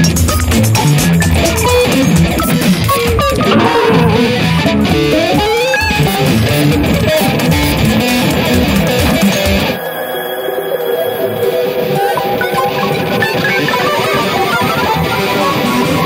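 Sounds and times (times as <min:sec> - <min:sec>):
electric guitar music: 0:00.0 - 0:09.9, 0:10.7 - 0:16.0.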